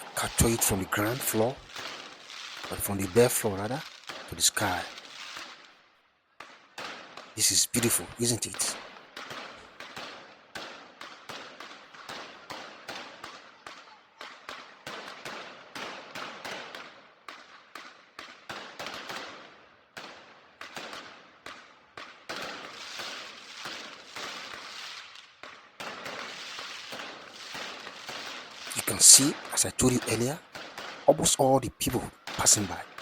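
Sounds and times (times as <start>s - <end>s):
fireworks banging: 0.0s - 5.8s, 6.4s - 33.0s.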